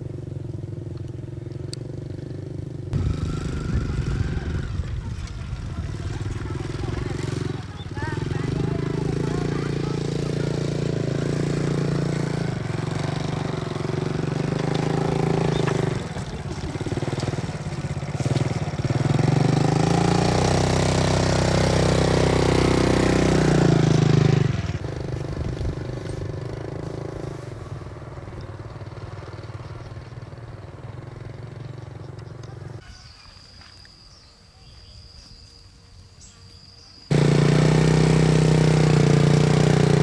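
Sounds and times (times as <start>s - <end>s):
small engine running: 0.0s - 32.9s, 37.1s - 40.0s.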